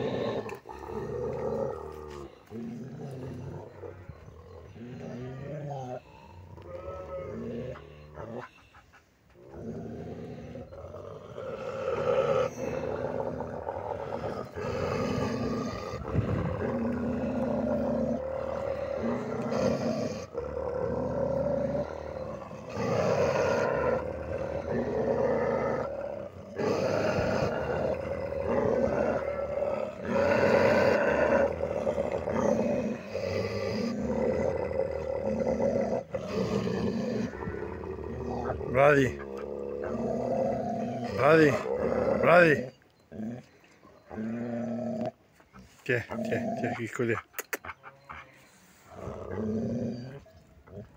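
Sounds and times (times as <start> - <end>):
dogs growling: 0.0 - 50.9.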